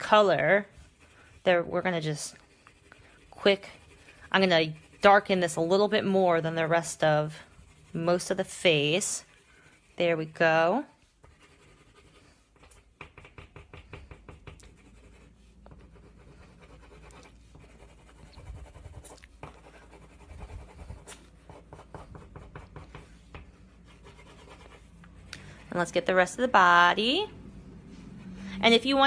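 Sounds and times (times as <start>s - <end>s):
colored pencil scratching on paper: 0.0s - 29.0s.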